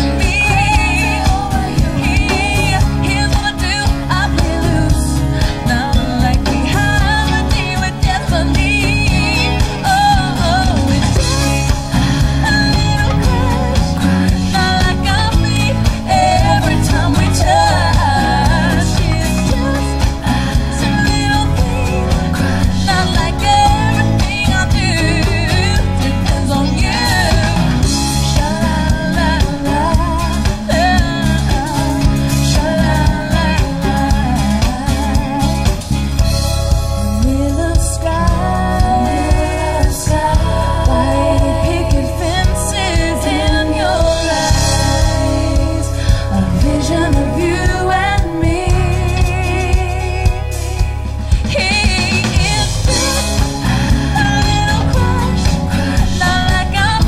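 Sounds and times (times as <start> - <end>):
band playing: 0.0 - 57.0
drum kit: 0.0 - 57.0
electric bass: 0.0 - 57.0
woman singing pop song: 0.0 - 57.0.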